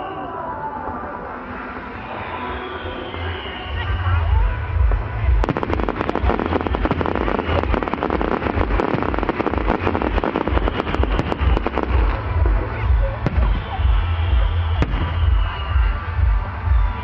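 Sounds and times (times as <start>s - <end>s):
fireworks crackling: 1.9s - 17.0s.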